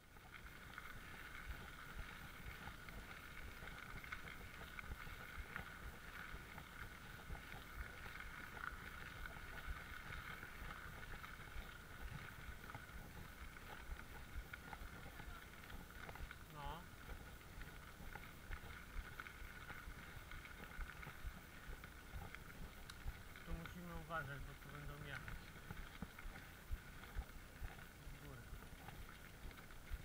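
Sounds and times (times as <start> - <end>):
bike tyres on gravel: 0.0 - 30.0.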